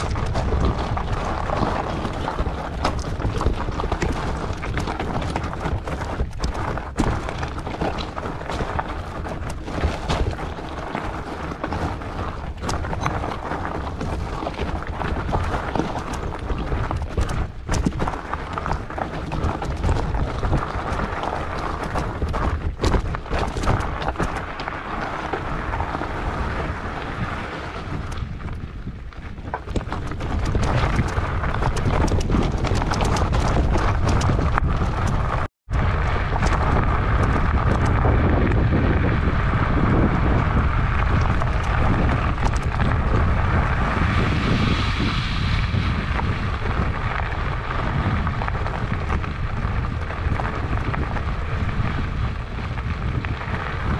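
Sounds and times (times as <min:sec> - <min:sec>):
bike tyres rolling on gravel: 0:00.0 - 0:53.9
stones and bike rattling: 0:00.0 - 0:53.9
wind on microphone: 0:00.0 - 0:53.9.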